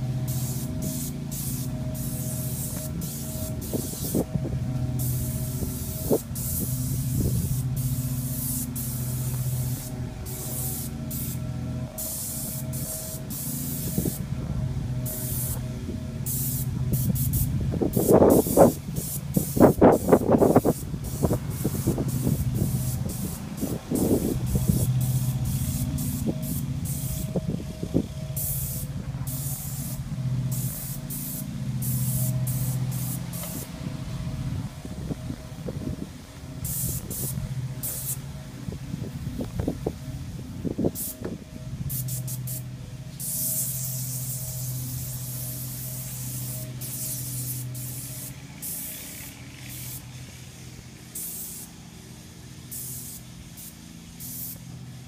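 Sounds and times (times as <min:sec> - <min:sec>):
spray gun hissing: 0:00.0 - 0:34.2, 0:36.6 - 0:38.3, 0:40.9 - 0:41.2, 0:41.9 - 0:55.0
paint sprayer motor humming: 0:00.0 - 0:55.0.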